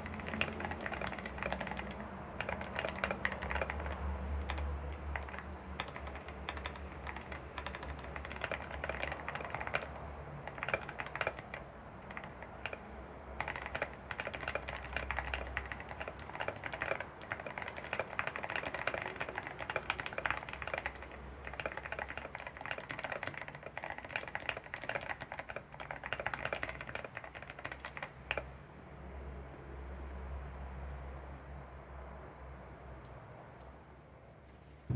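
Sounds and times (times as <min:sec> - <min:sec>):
mechanical keyboard typing: 0:00.0 - 0:28.5.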